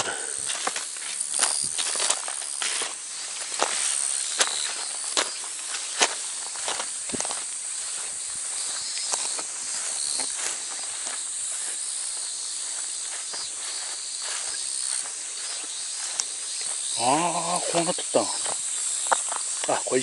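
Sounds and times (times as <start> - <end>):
cicadas buzzing: 0.0 - 20.0
footsteps: 0.0 - 20.0.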